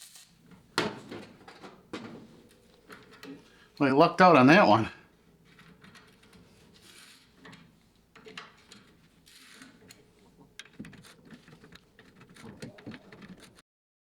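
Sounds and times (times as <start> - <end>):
hand tools clicking and knocking: 0.0 - 13.6.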